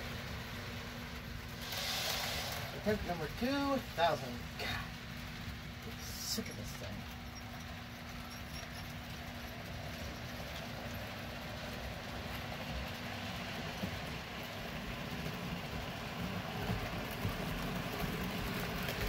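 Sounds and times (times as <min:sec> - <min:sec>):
model train rumbling: 0:00.0 - 0:19.0.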